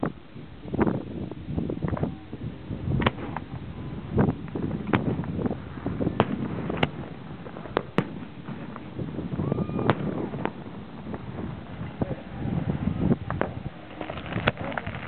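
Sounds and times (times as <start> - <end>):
continuous low rumble: 0.0 - 15.0
firework bangs: 2.7 - 15.0.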